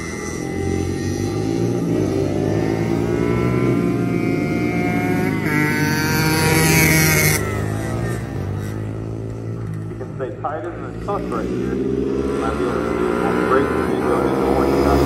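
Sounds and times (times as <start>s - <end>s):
two-stroke engines revving: 0.0s - 15.0s.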